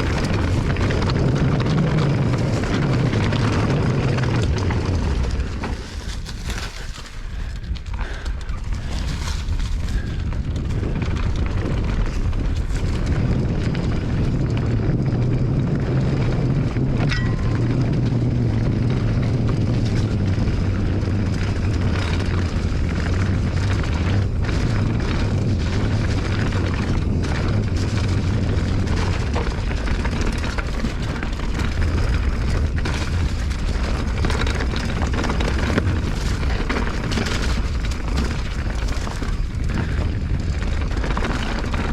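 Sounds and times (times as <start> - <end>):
bike clicks and rattles: 0.0 - 41.9
wind rumbling across microphone: 0.0 - 41.9.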